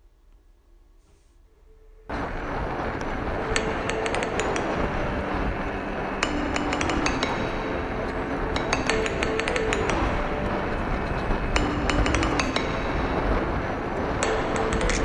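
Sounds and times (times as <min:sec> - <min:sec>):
wind and road noise: 0:02.1 - 0:15.0.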